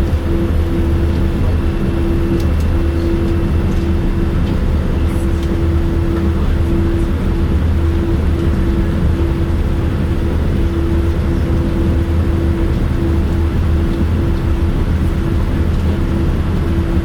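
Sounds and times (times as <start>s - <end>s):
aircraft engine rumble: 0.0s - 17.0s
cabin hum: 0.0s - 17.0s.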